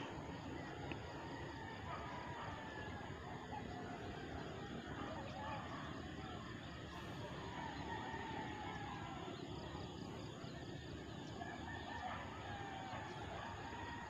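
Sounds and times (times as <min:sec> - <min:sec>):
faint distant bird calls: 0:00.0 - 0:14.0.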